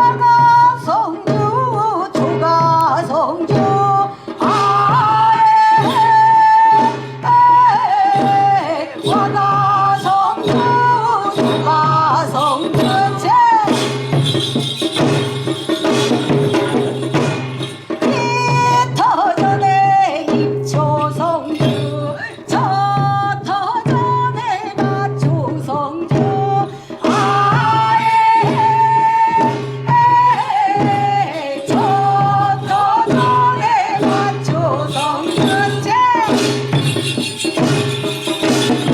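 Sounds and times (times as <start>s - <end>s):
folk percussion steady beat: 0.0s - 38.9s.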